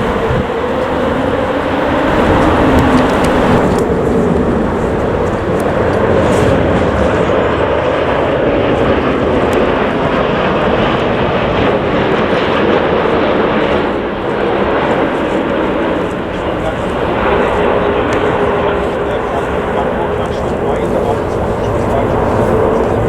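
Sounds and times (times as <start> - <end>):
jet airliner engines rushing: 0.0 - 23.0.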